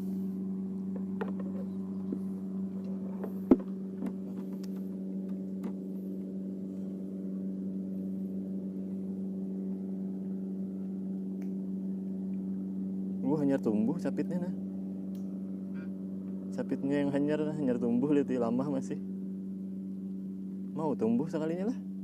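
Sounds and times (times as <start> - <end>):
steady engine hum: 0.0 - 22.0.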